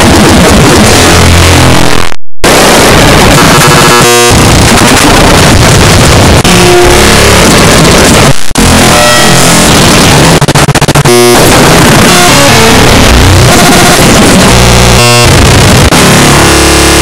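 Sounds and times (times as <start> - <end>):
harsh distorted electronic noise: 0.0 - 17.0.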